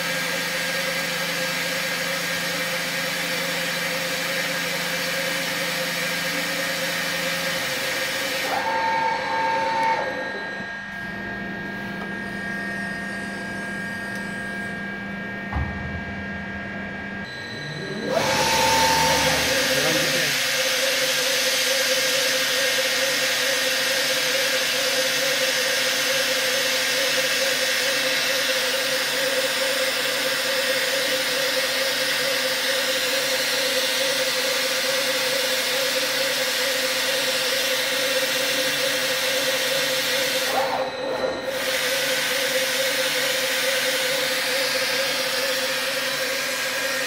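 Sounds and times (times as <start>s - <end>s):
slitter machine hissing and humming: 0.0s - 16.2s, 17.2s - 47.0s.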